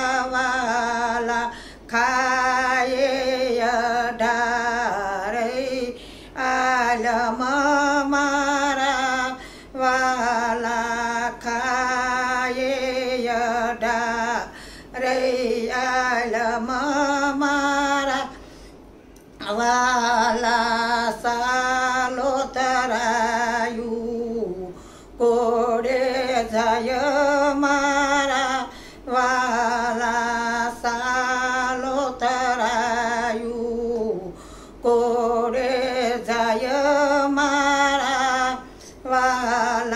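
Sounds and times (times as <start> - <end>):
woman singing devotional song: 0.0 - 39.9.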